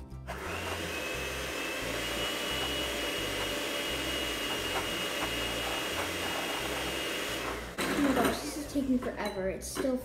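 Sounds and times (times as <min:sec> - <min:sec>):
electric hand mixer whining: 0:00.2 - 0:09.1.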